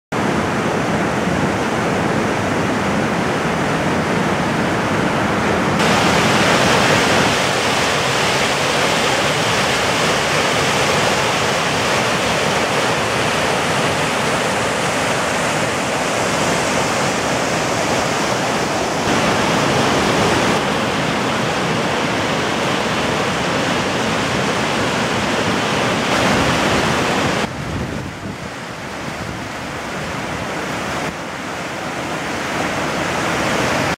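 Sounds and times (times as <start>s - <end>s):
water rushing over rocks: 0.2s - 33.9s.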